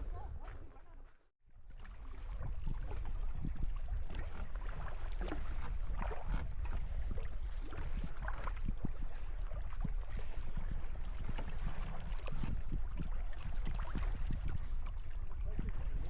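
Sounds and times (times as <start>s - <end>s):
water splashing around kayak: 0.0s - 16.0s.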